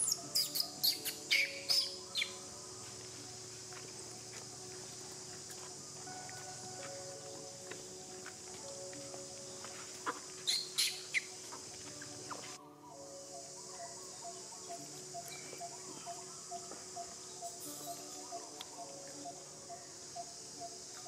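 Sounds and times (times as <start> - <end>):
birds calling: 0.0 - 21.0
high insect drone: 0.0 - 21.0.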